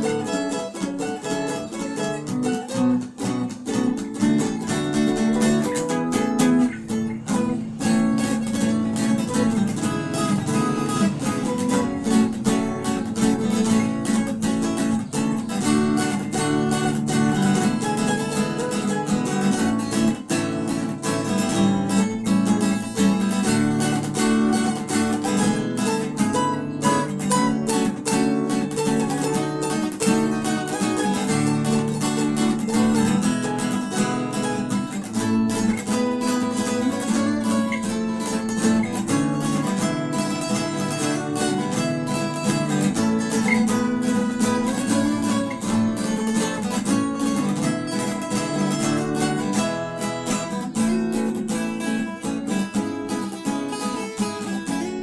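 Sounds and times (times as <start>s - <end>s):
fingerstyle acoustic guitar: 0.0s - 55.0s.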